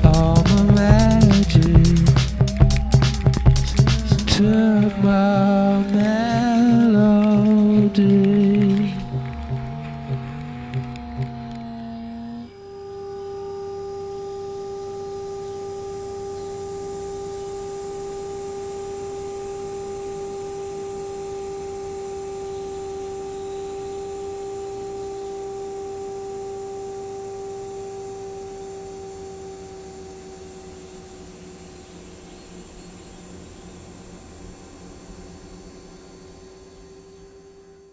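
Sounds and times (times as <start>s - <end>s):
long steady electronic tone: 0.0s - 37.9s.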